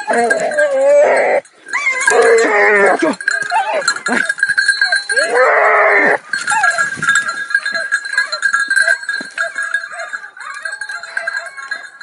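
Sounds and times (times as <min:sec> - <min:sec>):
collar bells ringing: 0:00.0 - 0:12.0
hunting dogs baying and yelping: 0:00.0 - 0:12.0.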